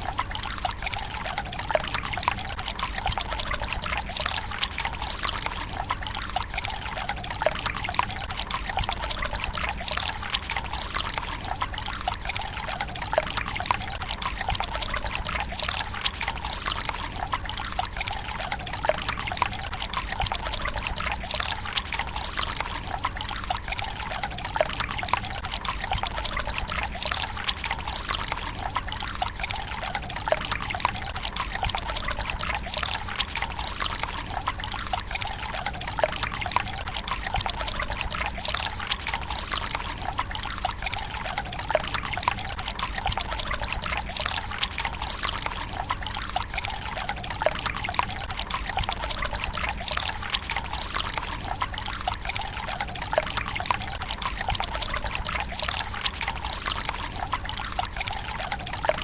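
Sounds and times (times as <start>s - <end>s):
water pouring into stone basin: 0.0s - 59.0s.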